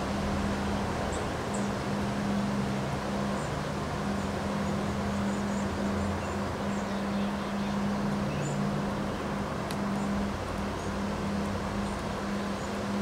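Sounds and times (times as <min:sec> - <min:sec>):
low hum: 0:00.0 - 0:13.0
wind rustling leafy trees: 0:00.0 - 0:13.0.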